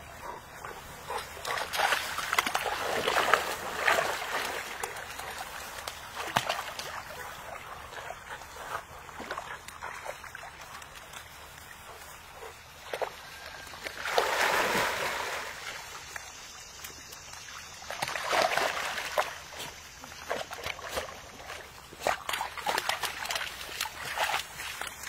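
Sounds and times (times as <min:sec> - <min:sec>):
dogs splashing in water: 0:00.5 - 0:25.0.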